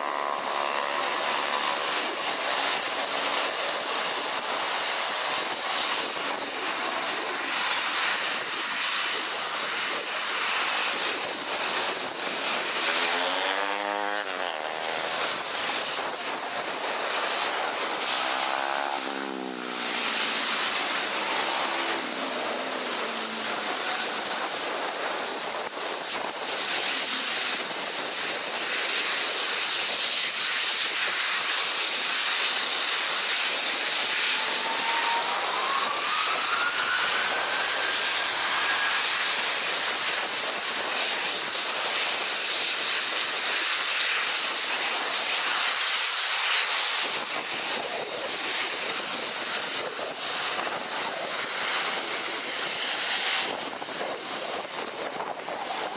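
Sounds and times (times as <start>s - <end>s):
jet engines roaring: 0.0s - 55.9s.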